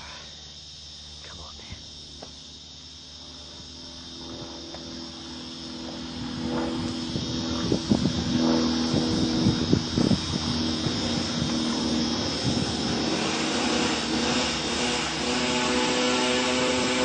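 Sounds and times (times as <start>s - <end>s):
minibike engine running: 3.0s - 17.0s.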